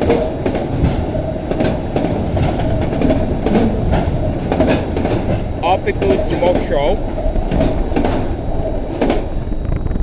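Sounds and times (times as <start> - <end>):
freight train rumbling: 0.0 - 10.0.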